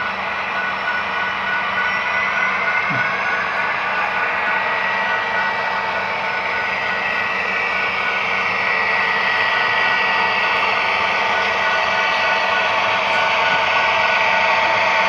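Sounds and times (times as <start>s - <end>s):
model locomotives whirring: 0.0s - 15.0s.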